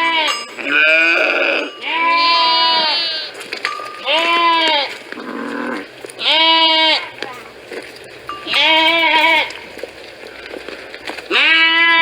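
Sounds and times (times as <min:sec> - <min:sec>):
sheep bleating: 0:00.0 - 0:07.7, 0:08.3 - 0:12.0.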